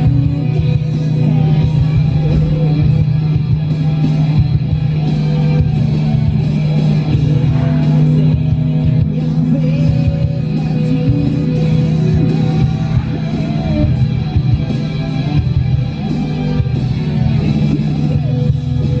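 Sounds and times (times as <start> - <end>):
song with singing on car radio: 0.0 - 19.0.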